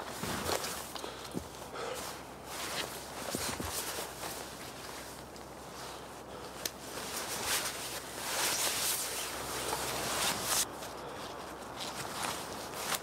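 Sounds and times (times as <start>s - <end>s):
jacket and backpack rustling: 0.0s - 13.0s.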